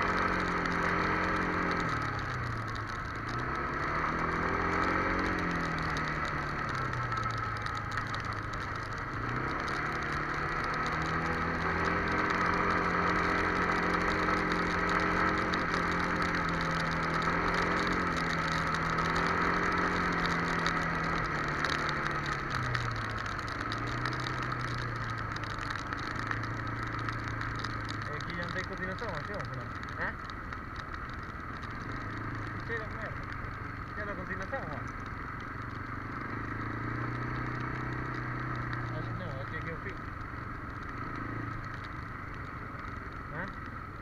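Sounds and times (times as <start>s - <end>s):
quad engine running: 0.0s - 30.4s, 31.1s - 44.0s.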